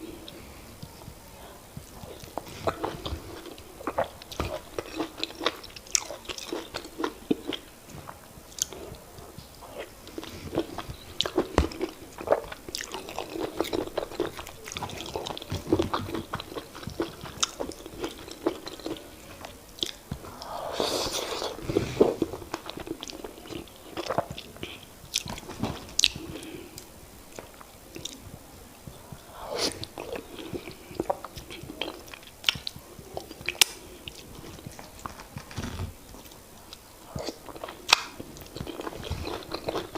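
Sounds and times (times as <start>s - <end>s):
wet chewing and smacking: 1.8s - 28.2s, 28.8s - 35.1s, 36.2s - 39.9s.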